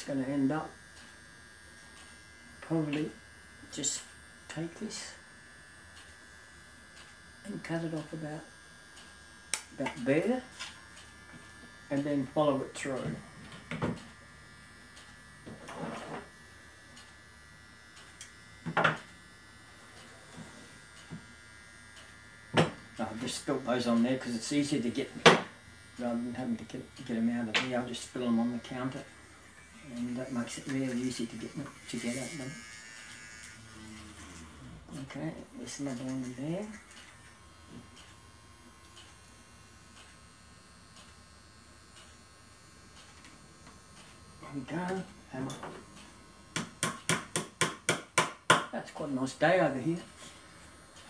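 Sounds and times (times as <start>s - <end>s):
faint electrical hum: 0.0s - 51.0s.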